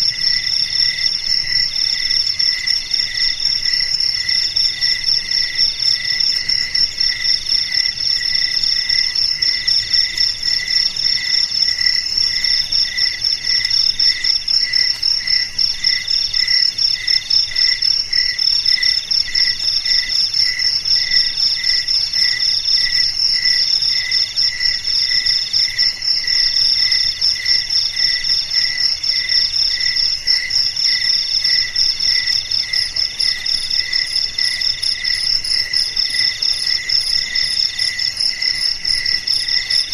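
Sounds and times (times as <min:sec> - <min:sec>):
lower cricket chirp: 0:00.0 - 0:39.9.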